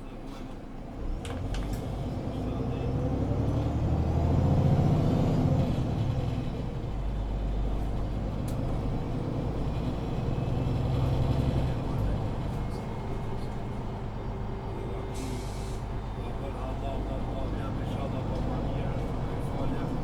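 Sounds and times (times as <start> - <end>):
bus diesel engine under load: 0.0 - 20.0.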